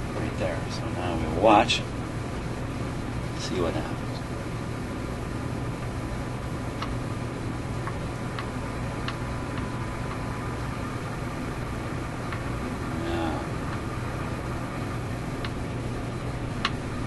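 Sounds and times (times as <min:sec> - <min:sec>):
faint steady tone: 0:00.0 - 0:17.0
low hum: 0:00.0 - 0:17.0
radio static hiss: 0:00.0 - 0:17.0.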